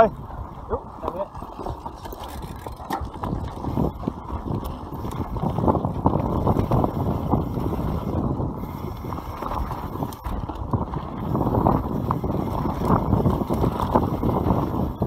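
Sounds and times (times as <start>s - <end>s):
tyres rumbling on dirt: 0.0s - 15.0s
wind on microphone: 0.0s - 15.0s
bike knocks and rattles: 0.4s - 15.0s.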